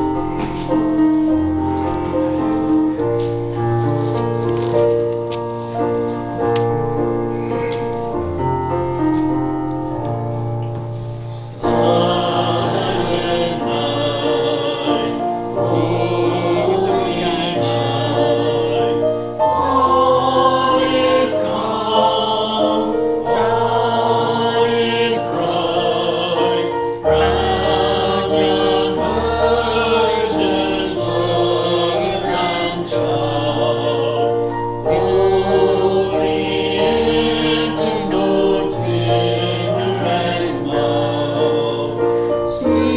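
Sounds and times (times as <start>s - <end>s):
church choir singing: 0.0s - 42.9s
instrumental accompaniment: 0.0s - 42.9s.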